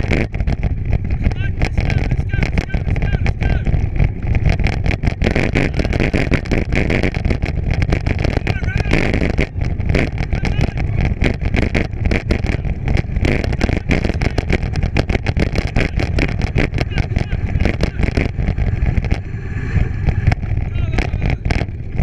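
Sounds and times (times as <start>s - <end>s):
bike rattling and clicking: 0.0s - 22.0s
tyres and wind rumbling: 0.0s - 22.0s.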